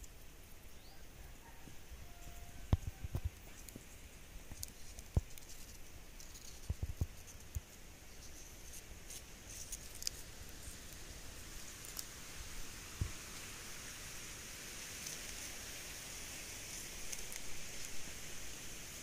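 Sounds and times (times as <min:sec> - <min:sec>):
faint outdoor hiss: 0:00.0 - 0:19.0.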